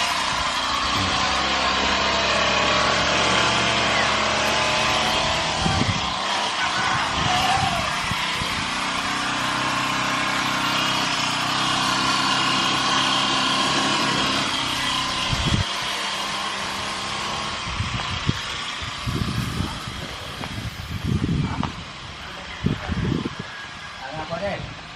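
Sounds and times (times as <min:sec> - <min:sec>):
string trimmer engine running: 0:00.0 - 0:24.0.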